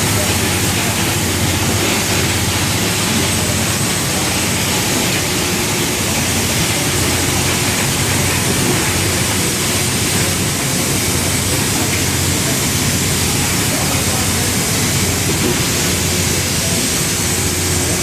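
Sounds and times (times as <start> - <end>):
engine room machinery roar: 0.0 - 18.0.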